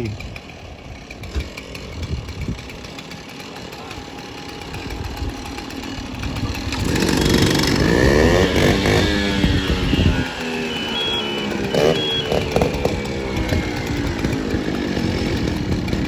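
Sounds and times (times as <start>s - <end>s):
chainsaw engine revving: 0.0s - 16.0s.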